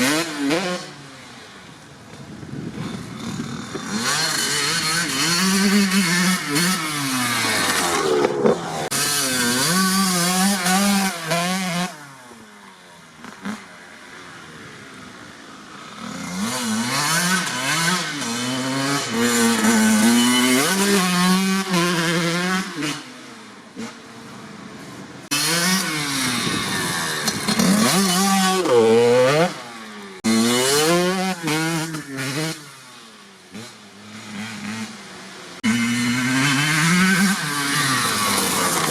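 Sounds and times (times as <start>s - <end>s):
motorcycle engine revving: 0.0s - 12.5s, 13.1s - 24.5s, 25.2s - 38.9s.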